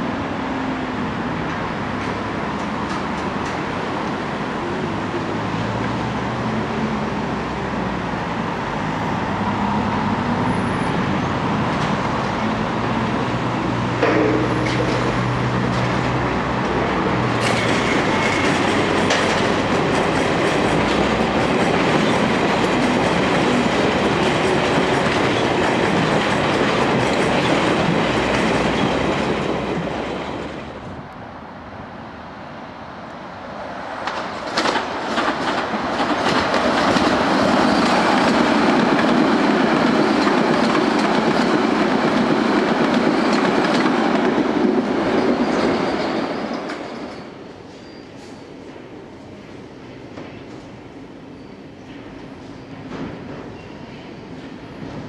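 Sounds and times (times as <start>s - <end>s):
train running on track: 0.0s - 55.0s.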